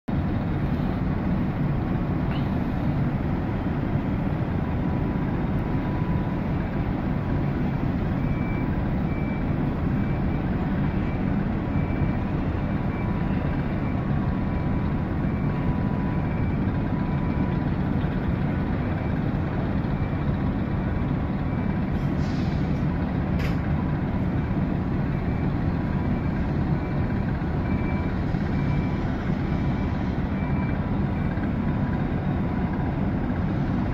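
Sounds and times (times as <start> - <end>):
ship diesel engines rumbling: 0.1 - 33.9.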